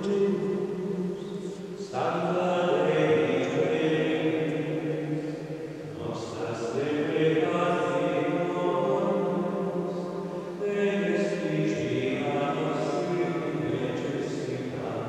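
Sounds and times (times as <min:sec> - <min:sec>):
slow sung chant: 0:00.0 - 0:15.0.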